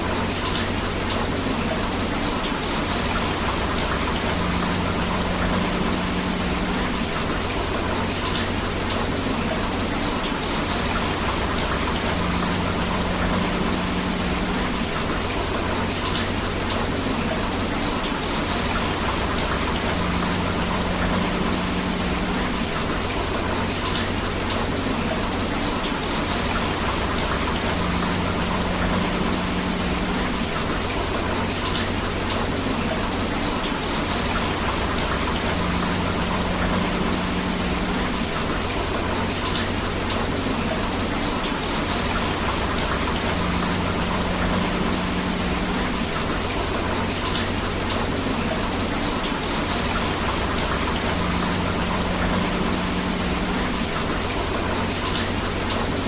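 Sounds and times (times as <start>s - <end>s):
rain and flowing river: 0.0s - 56.0s.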